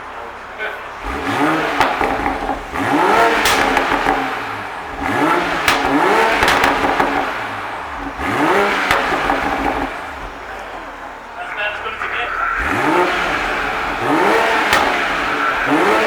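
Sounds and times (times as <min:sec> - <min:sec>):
car engine revving: 0:00.0 - 0:16.0
exhaust crackles and pops: 0:00.0 - 0:16.0.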